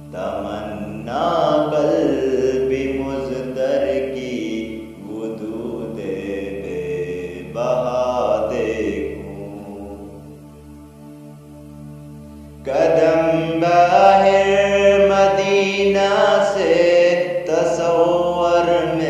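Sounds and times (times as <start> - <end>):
man chanting: 0.0 - 10.2, 12.6 - 19.0.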